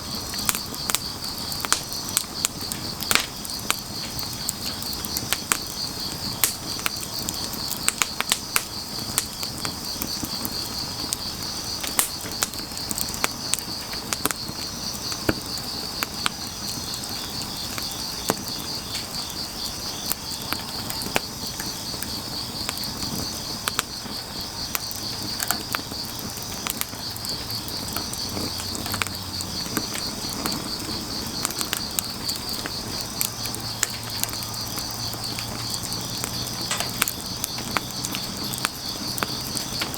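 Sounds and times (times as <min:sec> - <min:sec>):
crickets chirring: 0:00.0 - 0:39.9
firewood popping: 0:00.0 - 0:39.9
wood fire crackling: 0:00.0 - 0:39.9.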